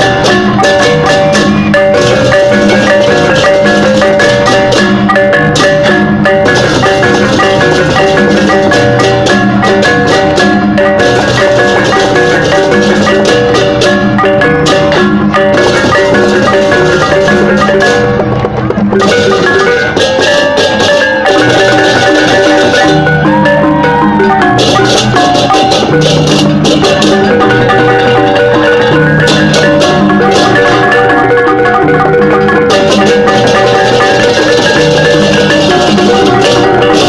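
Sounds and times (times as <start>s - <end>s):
drums: 0.0s - 37.0s
metallophone notes: 0.0s - 37.0s.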